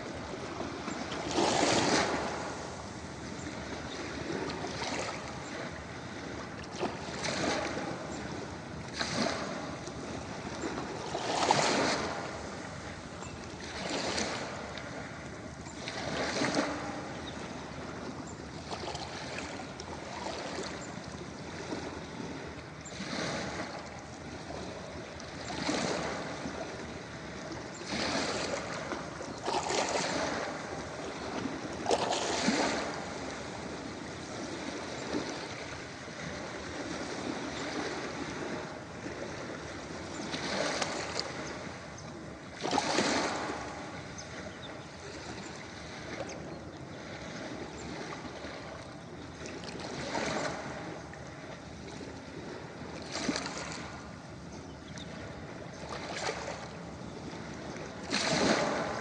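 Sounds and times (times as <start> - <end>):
ocean waves on a beach: 0.0 - 59.0.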